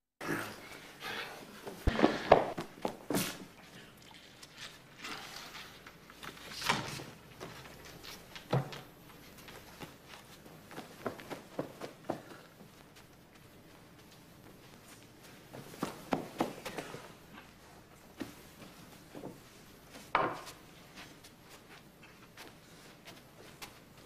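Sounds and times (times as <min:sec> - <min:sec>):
footsteps: 0:00.7 - 0:24.0.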